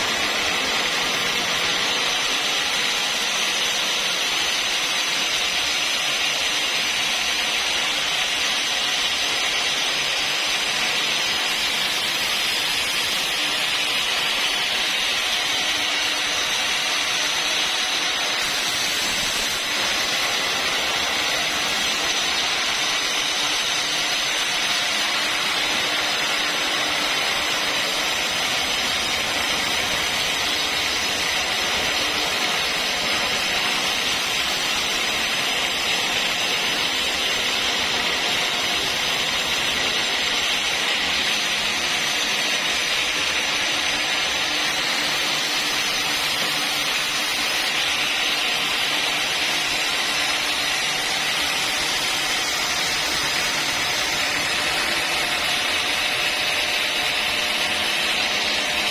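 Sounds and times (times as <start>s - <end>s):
sawmill saw cutting log: 0.0s - 58.9s.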